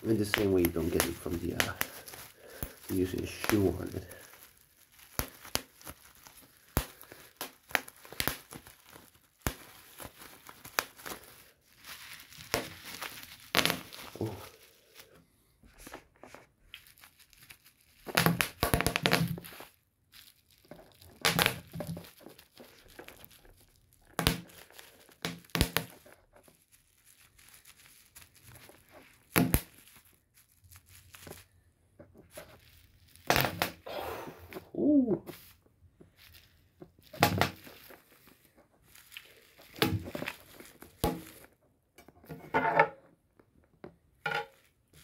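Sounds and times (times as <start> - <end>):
bubble wrap popping: 0.0 - 42.4, 43.2 - 45.0
plastic sheet crinkling: 0.0 - 42.4, 44.4 - 45.0.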